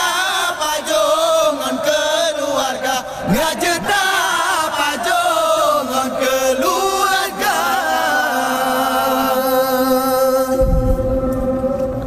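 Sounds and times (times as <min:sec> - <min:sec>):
young men chanting into a microphone: 0:00.0 - 0:11.7.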